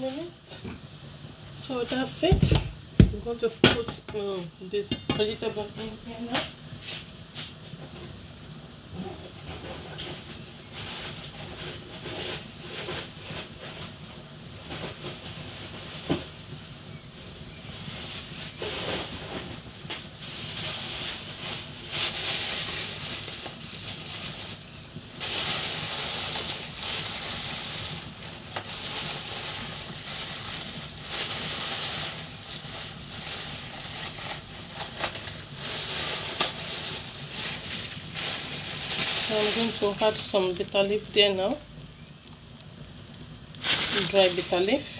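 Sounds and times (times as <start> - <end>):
pot simmering with hiss: 0.0 - 44.9.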